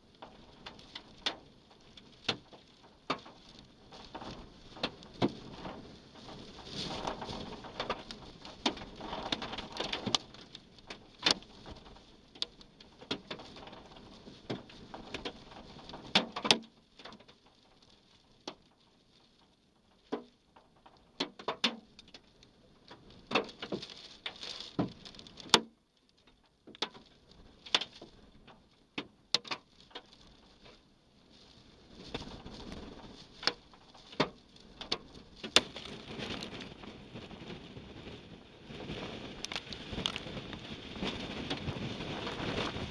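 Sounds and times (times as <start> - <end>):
storm wind and rain: 0.0 - 42.9.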